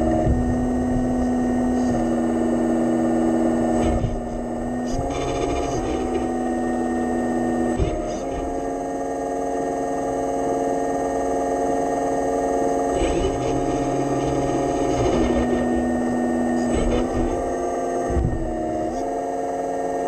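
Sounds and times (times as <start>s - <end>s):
hydraulic pump whining: 0.0s - 20.0s
low rough mechanical sound: 0.0s - 20.0s.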